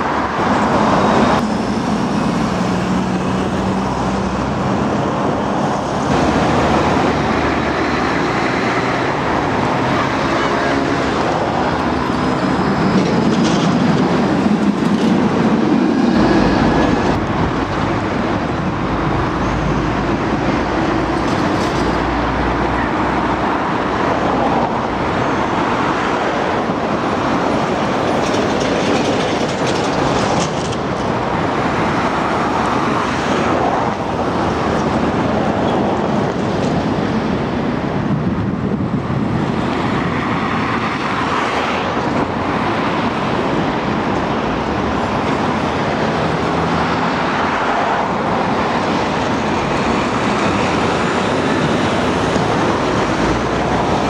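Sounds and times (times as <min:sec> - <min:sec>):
tram rumbling along rails: 0:00.0 - 0:54.0.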